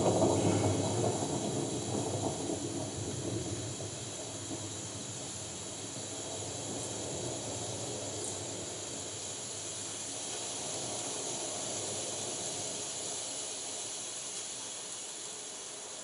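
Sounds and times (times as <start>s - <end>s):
steady hissing noise: 0.0s - 16.0s.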